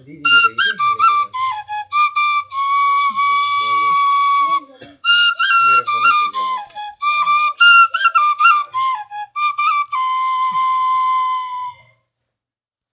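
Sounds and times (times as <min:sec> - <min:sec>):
bamboo flute melody: 0:00.1 - 0:12.0.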